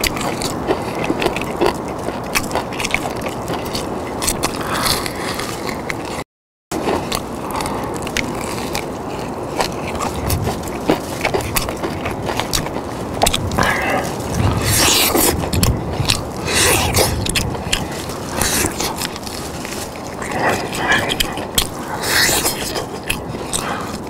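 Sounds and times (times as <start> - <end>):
crunchy fried chicken being chewed: 0.0 - 24.0.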